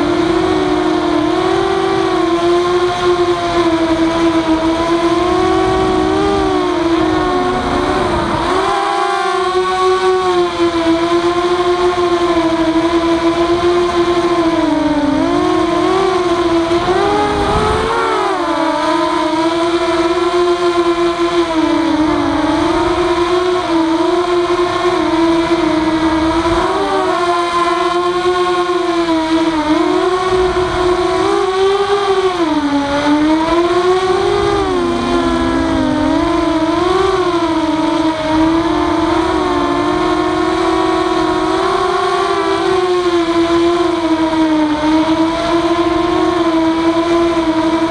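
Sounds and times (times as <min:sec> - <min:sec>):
low wind rumble: 0:00.0 - 0:47.9
quadcopter motors whining: 0:00.0 - 0:47.9.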